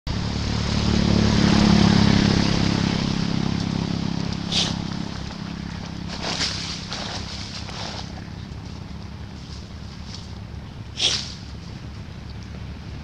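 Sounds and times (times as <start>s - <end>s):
engine low hum: 0.1s - 13.0s.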